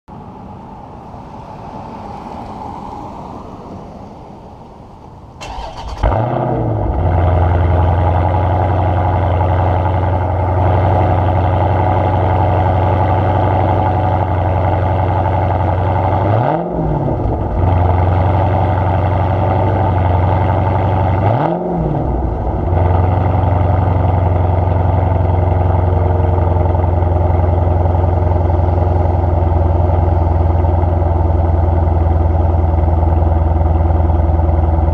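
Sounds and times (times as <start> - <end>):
car engine starting and idling: 0.3 - 34.9
engine throttle blips: 5.4 - 34.9.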